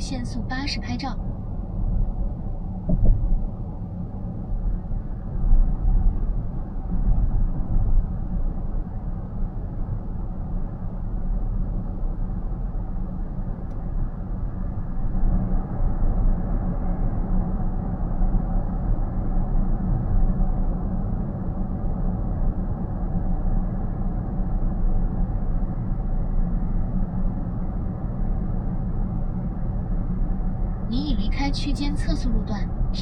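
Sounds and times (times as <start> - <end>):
road and tyre rumble in car: 0.0 - 33.0.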